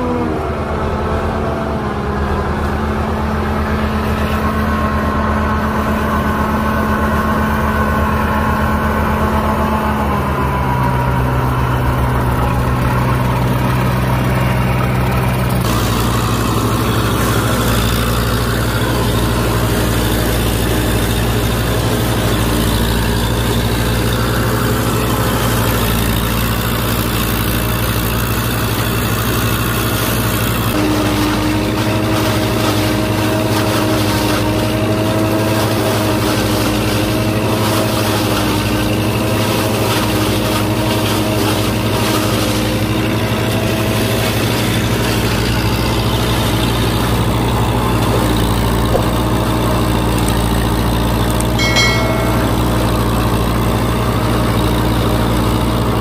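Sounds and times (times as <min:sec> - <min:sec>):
tractor diesel engine running: 0:00.0 - 0:56.0
forage harvester chopping corn: 0:03.2 - 0:52.3.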